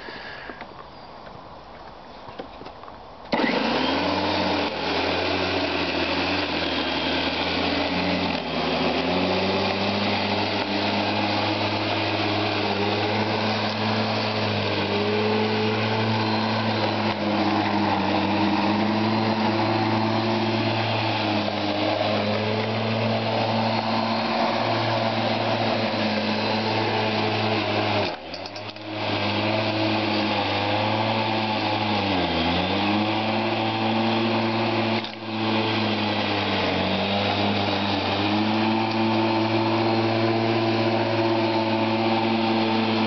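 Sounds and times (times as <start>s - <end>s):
electric lawnmower running: 3.3s - 43.0s.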